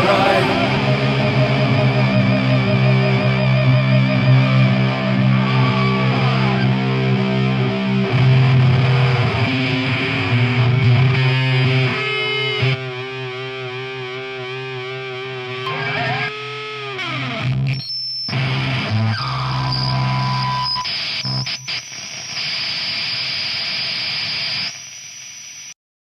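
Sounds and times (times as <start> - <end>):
guitar feedback noise: 0.0 - 22.6
distorted electric guitar: 0.0 - 25.7.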